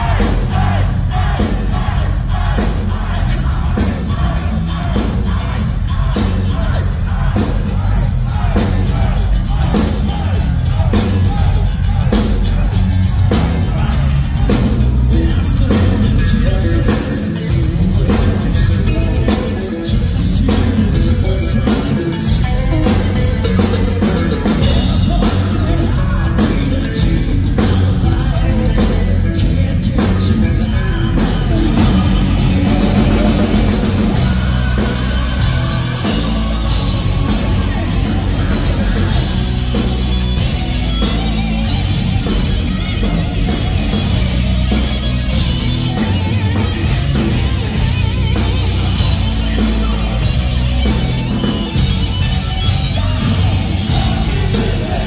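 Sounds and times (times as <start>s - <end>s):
distorted electric guitars: 0.0s - 55.0s
drum kit: 0.0s - 55.0s
male lead singer: 0.0s - 55.0s.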